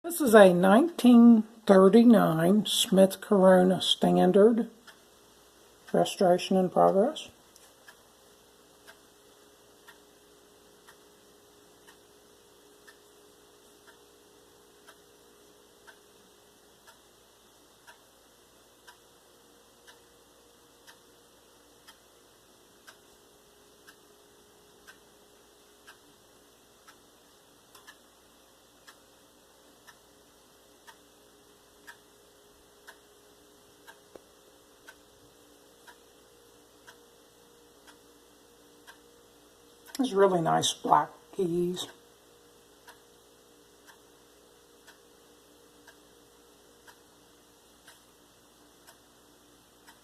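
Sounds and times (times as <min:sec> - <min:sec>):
faint clock ticking: 0:00.0 - 0:50.0
low steady hum: 0:00.0 - 0:50.0.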